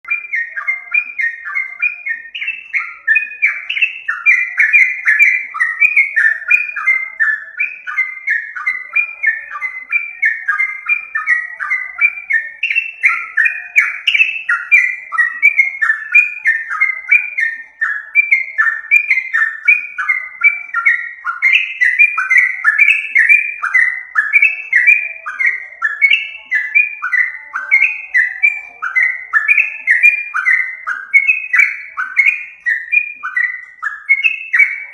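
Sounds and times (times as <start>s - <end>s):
bulbul calling: 0.0s - 34.9s.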